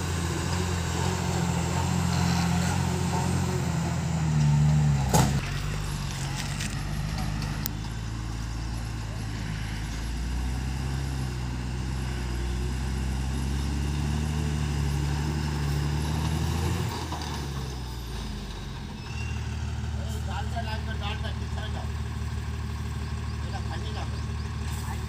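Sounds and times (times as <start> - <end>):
truck diesel engine working hard: 0.0 - 25.0.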